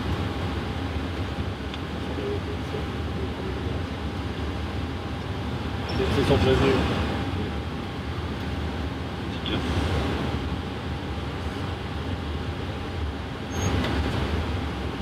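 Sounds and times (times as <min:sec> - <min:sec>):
aircraft engines idling: 0:00.0 - 0:15.0.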